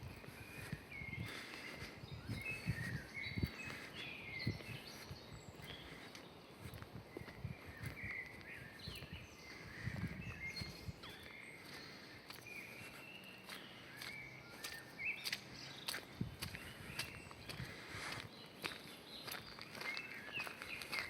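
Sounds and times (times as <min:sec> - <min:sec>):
footsteps on a path: 0:00.0 - 0:21.0
small birds chirping: 0:00.0 - 0:21.0.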